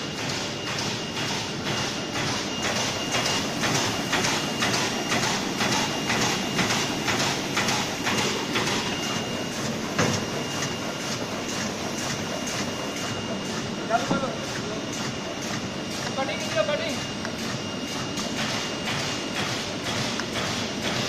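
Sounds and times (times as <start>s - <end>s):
bag-making machine clacking: 0.0s - 21.0s
machine hum: 0.0s - 21.0s.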